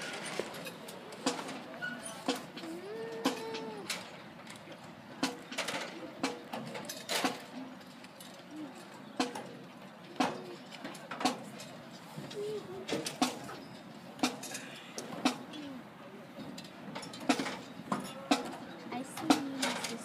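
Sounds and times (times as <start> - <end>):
faint crowd chatter: 0.0 - 20.0.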